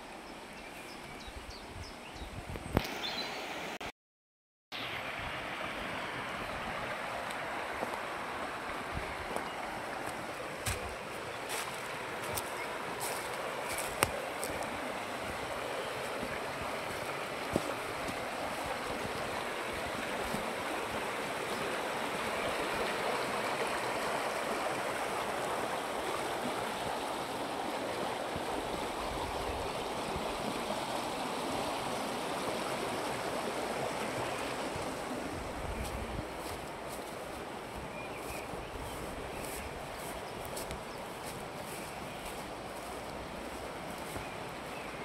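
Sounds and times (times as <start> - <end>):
stream rushing over cascade: 0.0 - 3.9, 4.8 - 45.0.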